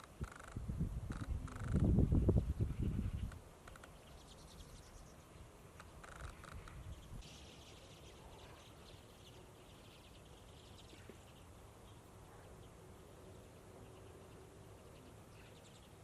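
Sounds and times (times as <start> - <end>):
flock of birds twittering: 0.0 - 16.0.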